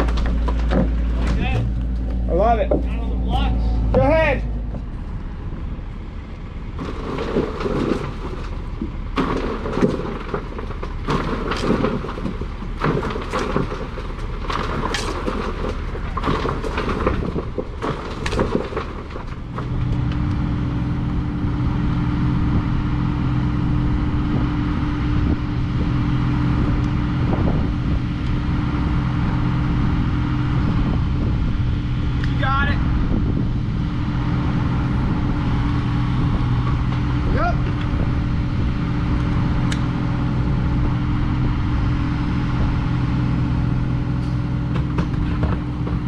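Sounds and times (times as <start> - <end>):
clanking and scraping of heavy material: 0.0 - 22.8, 23.4 - 46.0
diesel engine drone: 0.0 - 46.0
low machine rumble: 0.0 - 46.0.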